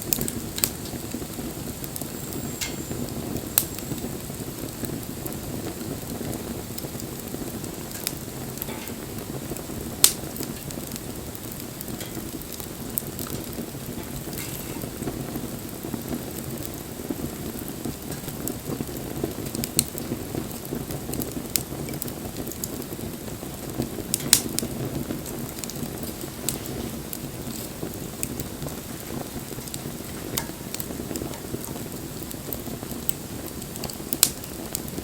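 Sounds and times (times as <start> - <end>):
low rush of fire: 0.0 - 35.0
wood crackling and popping: 0.0 - 35.0.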